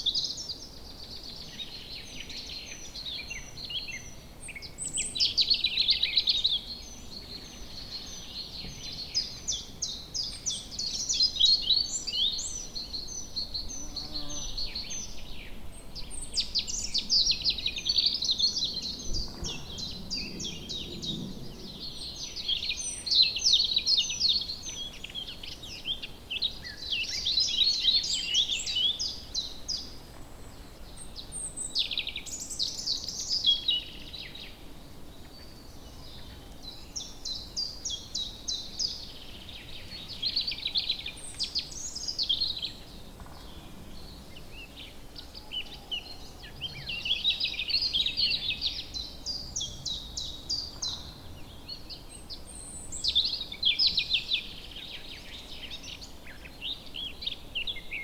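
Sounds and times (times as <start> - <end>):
woodland birds singing: 0.0 - 58.0.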